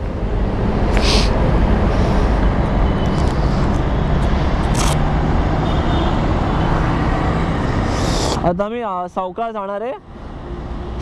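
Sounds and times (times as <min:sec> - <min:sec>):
traffic rumble: 0:00.0 - 0:11.0
wind: 0:00.0 - 0:11.0.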